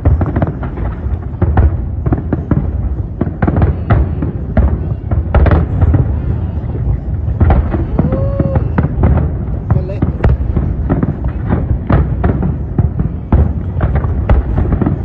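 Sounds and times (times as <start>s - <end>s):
continuous low rumble: 0.0s - 15.0s
fireworks bangs and crackles: 0.0s - 15.0s.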